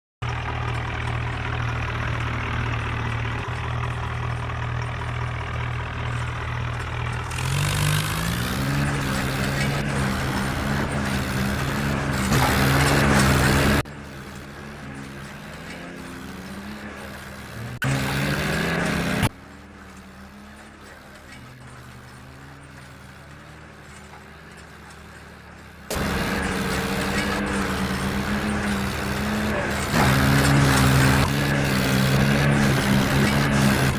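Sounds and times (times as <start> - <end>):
tractor engine idling and revving: 0.2 - 33.9.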